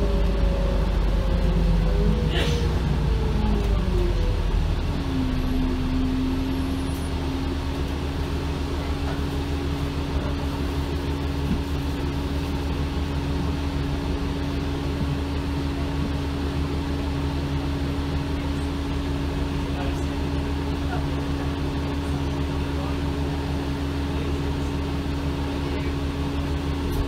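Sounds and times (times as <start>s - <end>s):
bus engine idling: 0.0s - 27.0s
steady whine: 0.0s - 27.0s.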